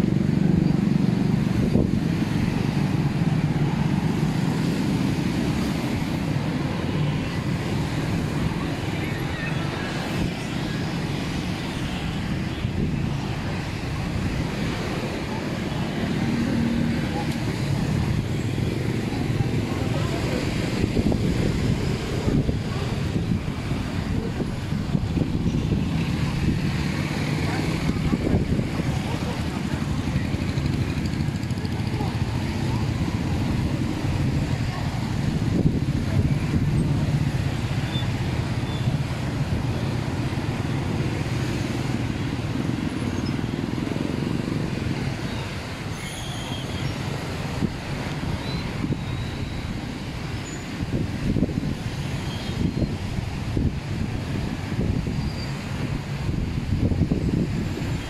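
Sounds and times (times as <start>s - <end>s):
cars and motorcycles passing: 0.0s - 58.0s.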